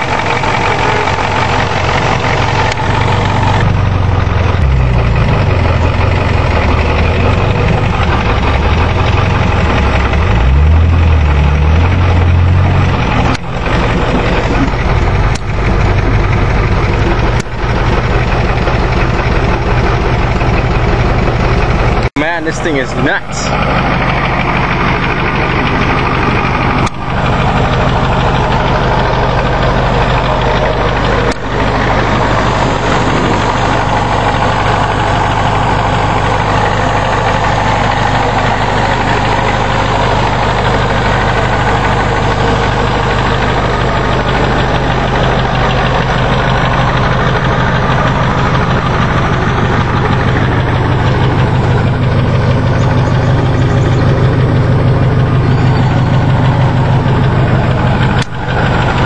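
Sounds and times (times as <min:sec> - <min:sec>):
diesel engine idling with clatter: 0:00.0 - 0:59.0.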